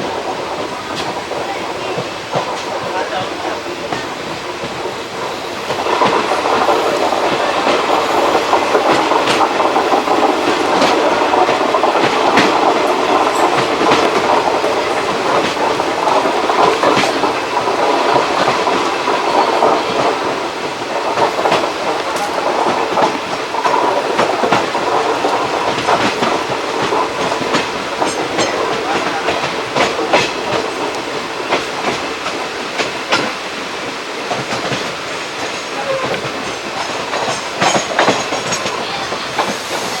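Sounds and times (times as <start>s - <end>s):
clickety-clack over rail joints: 0.0s - 40.0s
train wheels rumbling on track: 0.0s - 40.0s.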